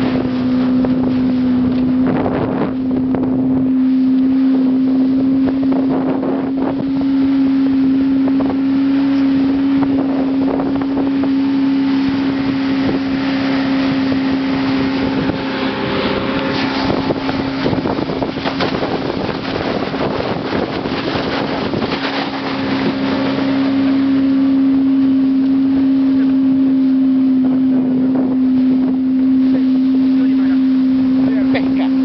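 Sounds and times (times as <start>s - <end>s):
boat engine humming: 0.0s - 32.0s
rushing water: 0.0s - 32.0s
wind: 0.0s - 32.0s.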